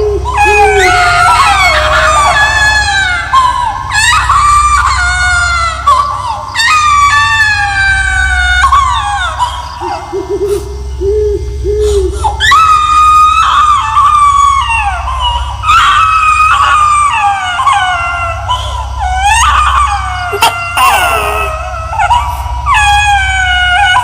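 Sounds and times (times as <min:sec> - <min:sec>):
eerie high-pitched wailing cries: 0:00.0 - 0:24.0
steady low hum: 0:00.0 - 0:24.0.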